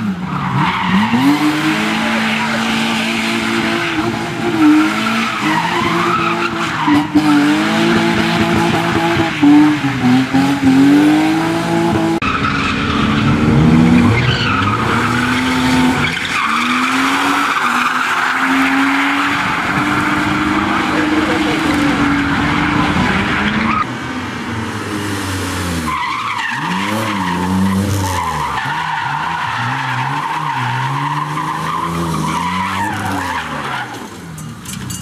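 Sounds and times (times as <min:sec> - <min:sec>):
car engines revving hard: 0:00.0 - 0:35.0.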